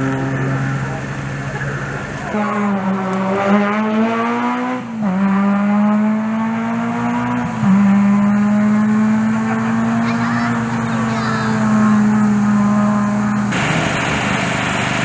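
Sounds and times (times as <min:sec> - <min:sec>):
rally car accelerating: 0:00.0 - 0:15.0.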